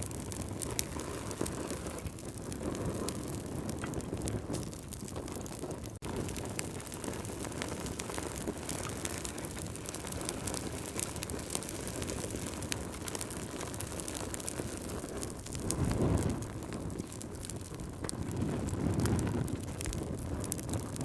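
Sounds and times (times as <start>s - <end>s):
fireplace fire crackling: 0.0s - 21.0s.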